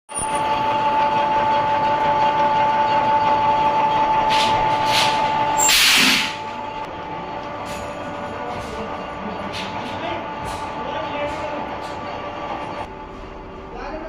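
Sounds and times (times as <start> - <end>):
machine motor whine: 0.1 - 14.0.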